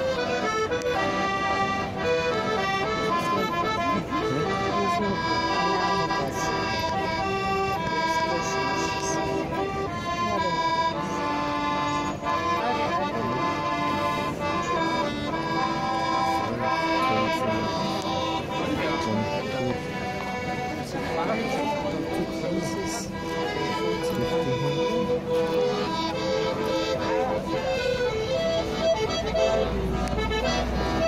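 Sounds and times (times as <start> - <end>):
piano accordion playing: 0.0 - 31.0.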